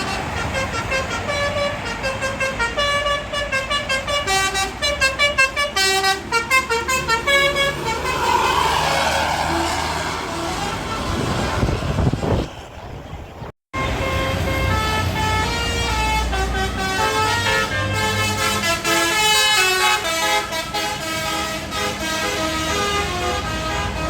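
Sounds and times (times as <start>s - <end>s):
multi-tone musical bus horn: 0.0s - 12.4s, 13.7s - 24.0s
bus passing by: 0.0s - 24.0s.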